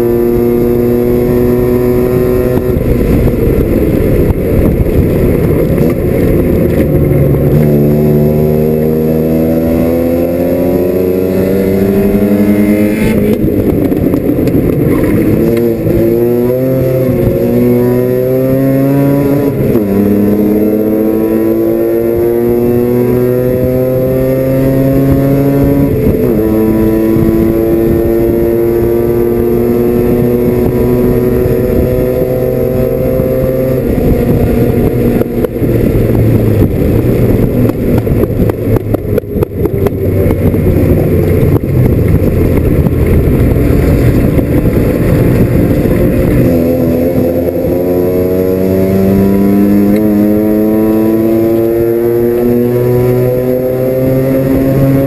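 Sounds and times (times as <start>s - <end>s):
rotary engine revving: 0.0s - 55.0s.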